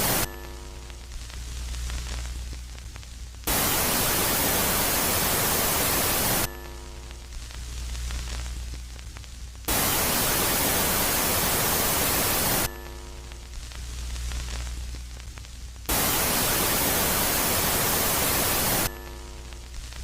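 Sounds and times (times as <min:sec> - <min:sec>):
hissing static: 0:00.0 - 0:20.0.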